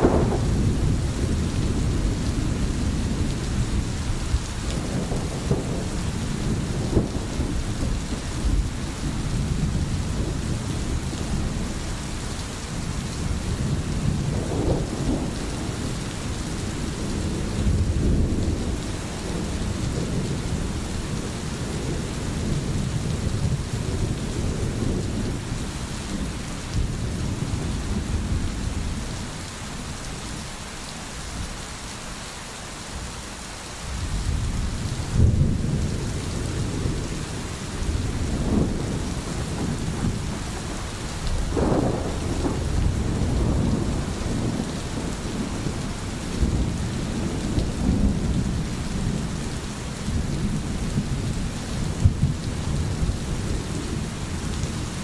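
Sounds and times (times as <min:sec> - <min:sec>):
rumble of thunder: 0:00.0 - 0:29.9, 0:34.0 - 0:55.0
steady rain: 0:00.0 - 0:55.0.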